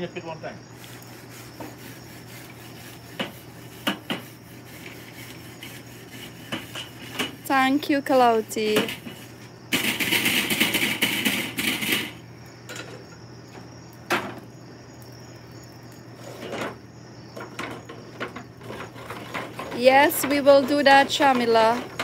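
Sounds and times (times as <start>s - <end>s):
insects chirping: 0.0s - 22.0s
tongs scraping charcoal: 0.7s - 13.2s, 14.9s - 22.0s.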